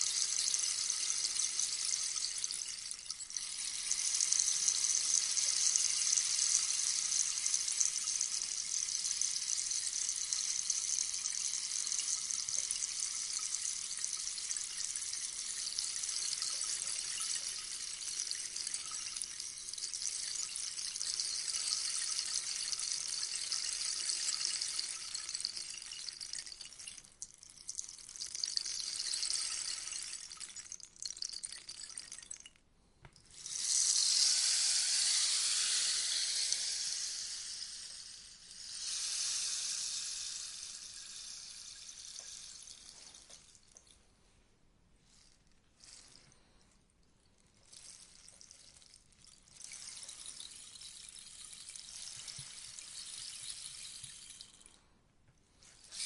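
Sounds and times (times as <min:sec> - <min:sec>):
rainstick pellets trickling: 0:00.0 - 0:32.6, 0:33.2 - 0:44.0, 0:45.0 - 0:46.6, 0:47.4 - 0:54.8, 0:55.6 - 0:56.0.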